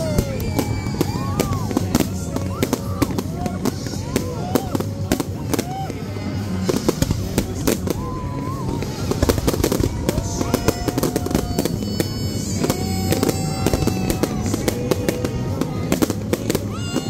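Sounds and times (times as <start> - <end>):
fireworks bursting with bangs and crackles: 0.0 - 17.0.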